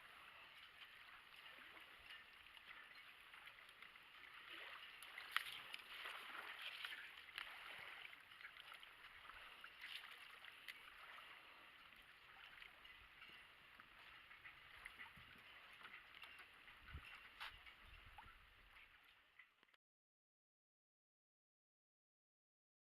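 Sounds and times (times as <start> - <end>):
water lapping and trickling: 0.0 - 19.8.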